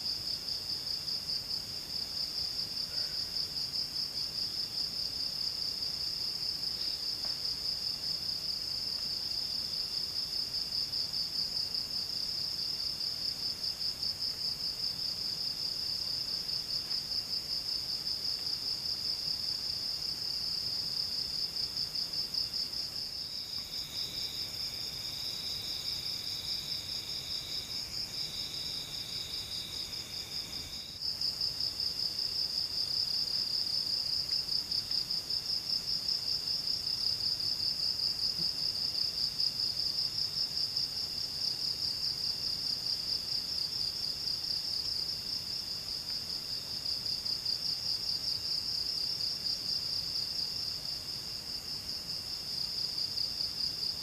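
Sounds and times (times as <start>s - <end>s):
low buzzy insect call: 0.0s - 54.0s.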